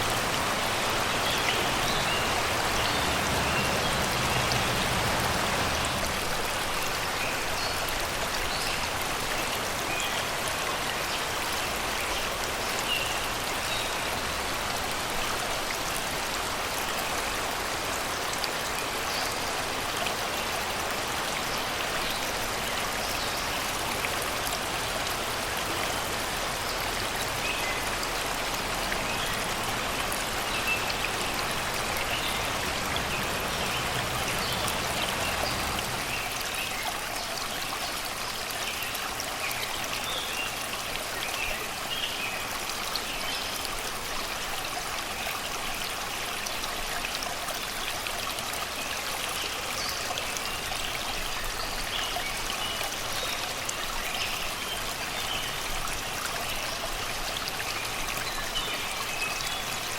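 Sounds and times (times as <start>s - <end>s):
river water babbling over rocks: 0.0s - 59.9s.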